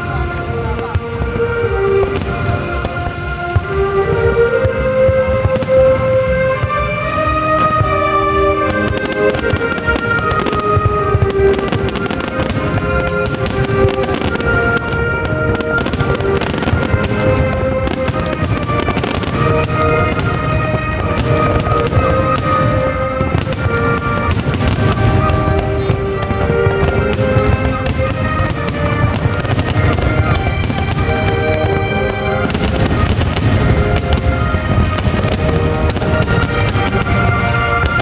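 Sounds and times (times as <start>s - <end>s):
fireworks booming: 0.0s - 38.0s
fireworks crackles and pops: 0.0s - 38.0s
music with long held notes: 0.0s - 38.0s.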